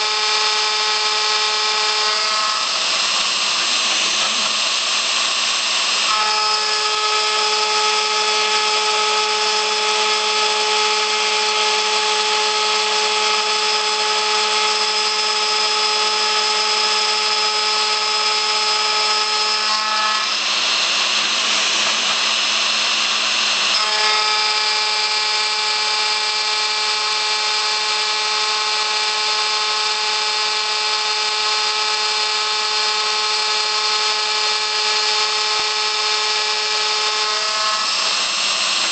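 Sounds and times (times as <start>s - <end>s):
metal grinding cutting noise: 0.0s - 38.9s
router high whine: 0.0s - 38.9s.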